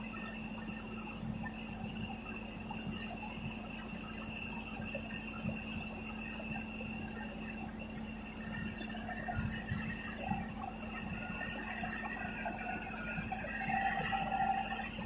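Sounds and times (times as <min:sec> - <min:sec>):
diesel engine hum with whine: 0:00.0 - 0:15.0.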